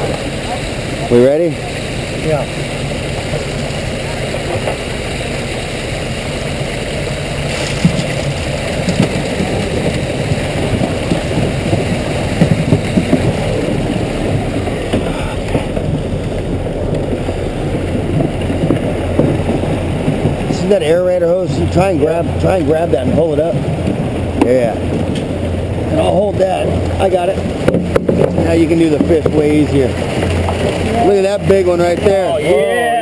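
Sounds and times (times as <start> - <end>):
truck engine humming: 0.0 - 33.0
water rushing down tube: 0.0 - 33.0.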